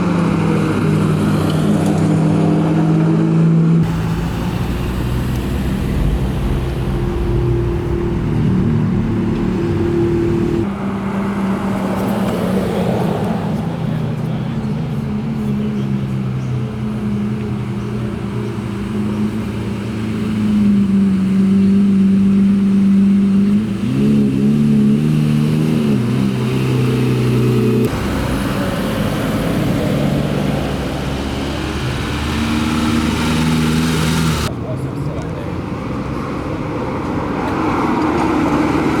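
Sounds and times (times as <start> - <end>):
car engines driving slowly past: 3.8 - 39.0.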